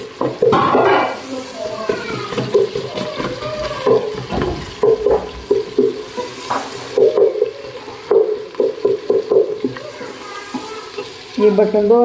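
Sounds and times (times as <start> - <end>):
vegetables frying in oil: 0.0 - 12.0.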